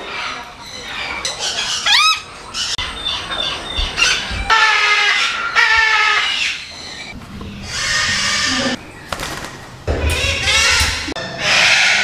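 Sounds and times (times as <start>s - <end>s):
parrots squawking: 0.0s - 8.8s, 10.1s - 12.0s.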